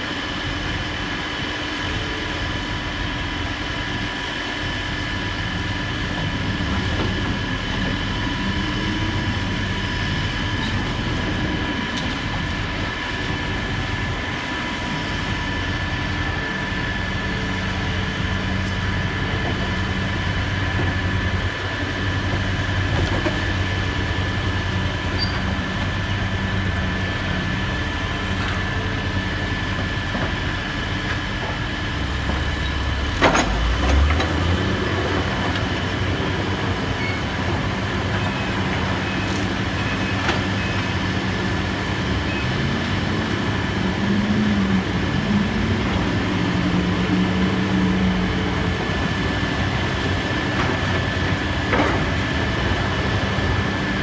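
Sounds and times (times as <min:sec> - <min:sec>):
demolition machinery engine hum: 0:00.0 - 0:54.0.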